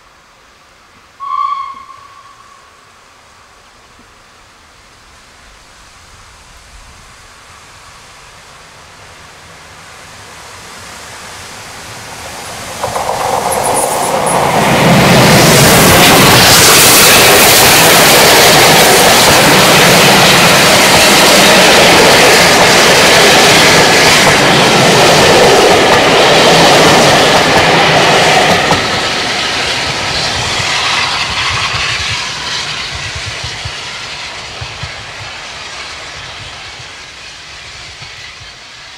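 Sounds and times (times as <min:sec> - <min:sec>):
steam train passing: 0:00.0 - 0:38.9.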